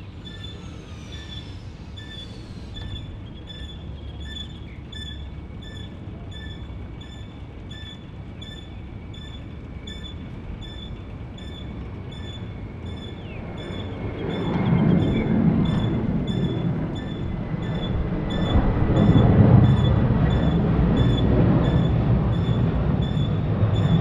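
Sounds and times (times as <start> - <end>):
faint high whine: 0.0 - 24.0
jet engines rumbling: 0.0 - 24.0.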